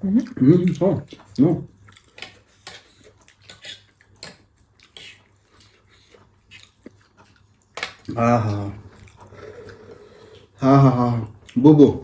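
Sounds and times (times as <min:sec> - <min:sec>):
person chewing noodles: 0:00.0 - 0:11.6.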